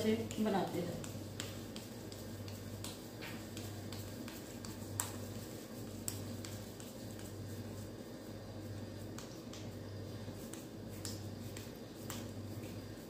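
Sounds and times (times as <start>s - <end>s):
low steady hum: 0.0s - 13.0s
oiled palms rubbing: 0.0s - 13.0s.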